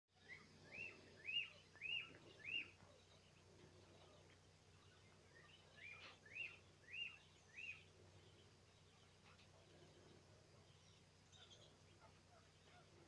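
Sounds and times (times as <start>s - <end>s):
young pheasants peeping: 0.1s - 13.0s.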